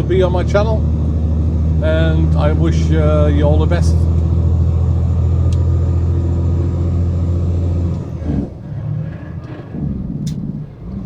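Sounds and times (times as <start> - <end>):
diesel truck engine drone: 0.0 - 11.0.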